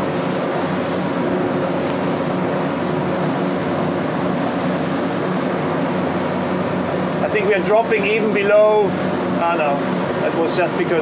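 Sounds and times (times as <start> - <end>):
outboard motors running: 0.0 - 11.0
rush of wind and water: 0.0 - 11.0.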